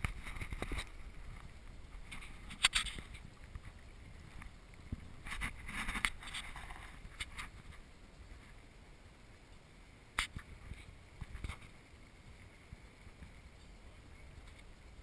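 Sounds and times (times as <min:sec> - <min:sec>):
water splashing around a kayak: 0:00.0 - 0:15.0.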